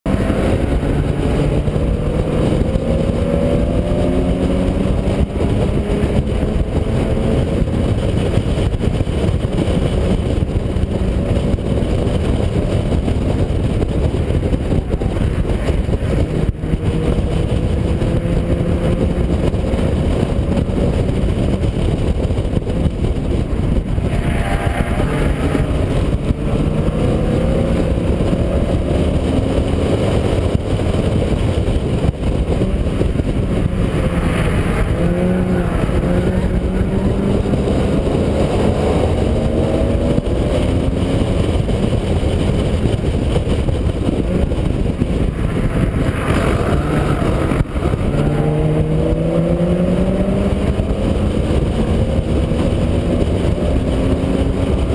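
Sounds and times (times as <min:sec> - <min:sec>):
race car engine pulling hard: 0:00.0 - 0:54.9
wind and road noise: 0:00.0 - 0:54.9.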